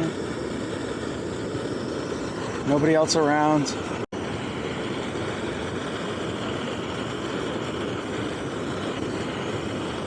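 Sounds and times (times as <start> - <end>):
ocean surf rushing: 0.0 - 10.0
strong wind: 0.0 - 10.0.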